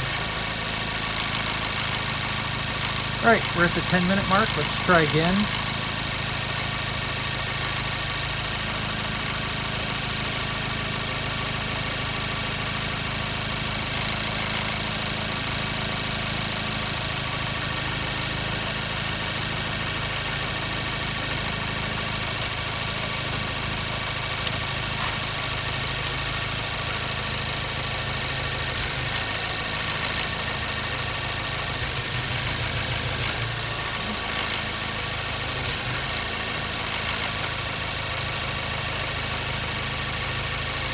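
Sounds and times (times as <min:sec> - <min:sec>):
car engine idling with misfire: 0:00.0 - 0:40.9.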